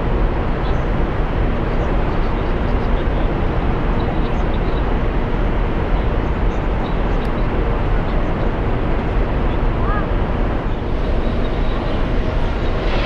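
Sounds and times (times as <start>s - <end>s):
ship machinery rumble: 0.0s - 13.0s.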